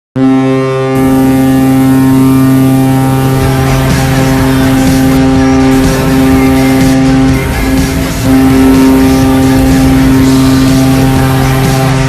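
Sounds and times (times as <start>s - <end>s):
arena goal horn blaring: 0.2s - 12.0s
wash of noise: 1.0s - 12.0s.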